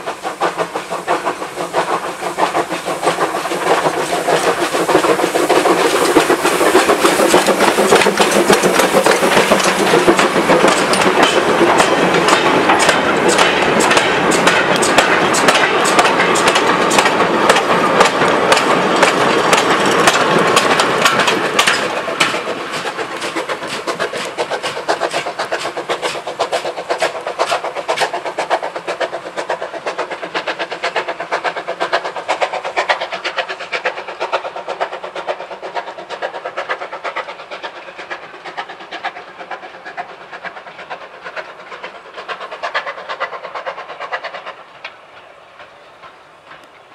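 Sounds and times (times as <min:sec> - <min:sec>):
steam locomotive exhaust: 0:00.0 - 0:46.9
wagons clattering on rail joints: 0:00.3 - 0:40.1.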